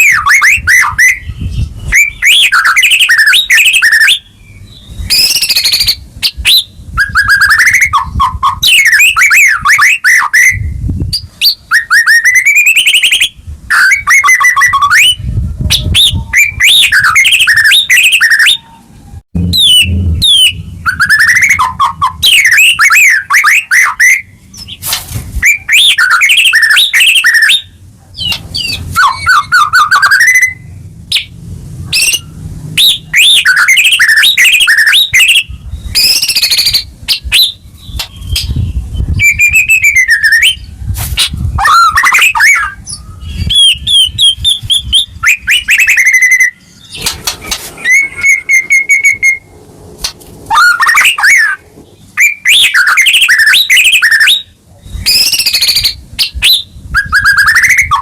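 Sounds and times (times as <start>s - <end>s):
bird singing: 0.0s - 24.8s, 25.4s - 40.8s, 41.6s - 49.5s, 50.5s - 58.0s.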